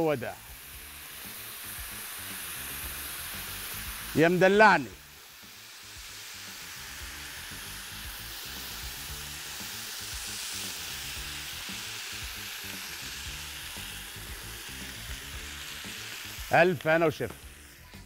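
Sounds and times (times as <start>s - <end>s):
faint background music: 0.0s - 18.0s
food sizzling on metal platter: 0.0s - 18.0s.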